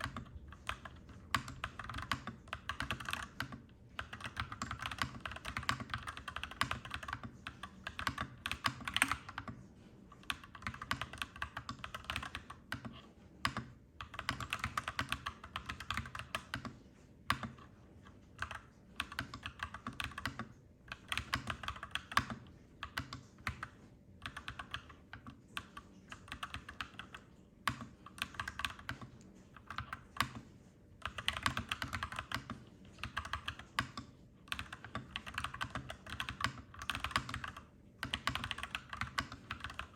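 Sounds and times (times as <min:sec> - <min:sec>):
mechanical keyboard typing: 0:00.0 - 0:09.6, 0:10.2 - 0:39.9.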